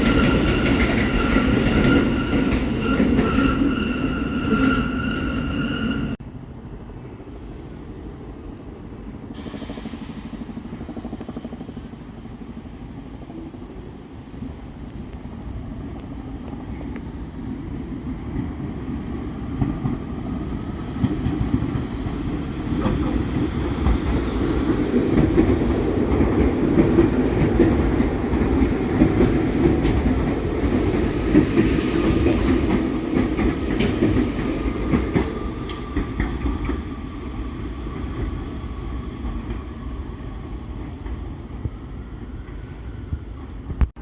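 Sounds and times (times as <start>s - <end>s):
subway train on rails: 0.0s - 44.0s.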